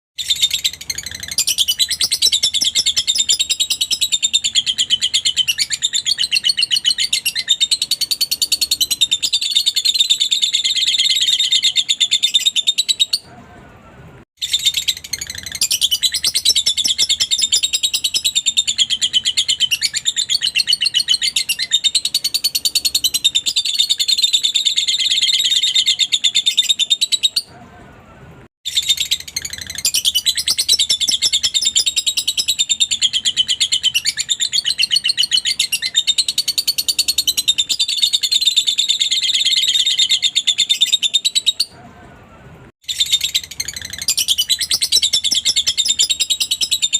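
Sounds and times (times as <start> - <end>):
lovebird chirps and trills: 0.2 - 13.3, 14.4 - 27.5, 28.7 - 41.8, 42.8 - 46.9.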